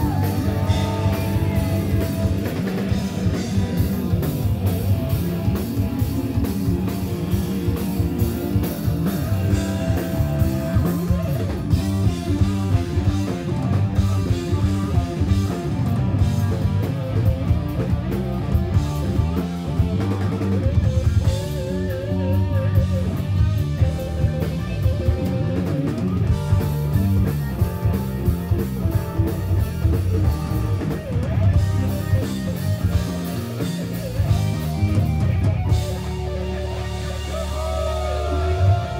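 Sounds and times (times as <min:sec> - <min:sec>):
bass guitar: 0:00.0 - 0:38.9
drum kit: 0:00.0 - 0:38.9
electric guitar lead: 0:00.0 - 0:38.9
keyboards: 0:00.0 - 0:38.9.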